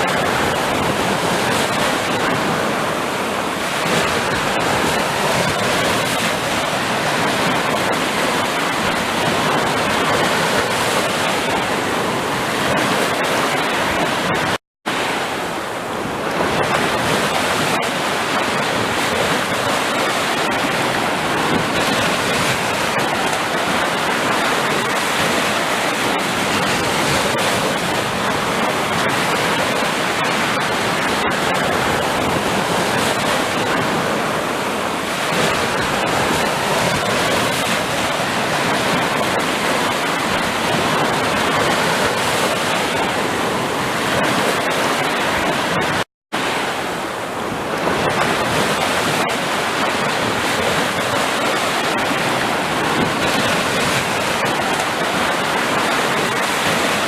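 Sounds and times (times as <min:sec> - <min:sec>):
sea waves rushing: 0:00.0 - 0:57.0.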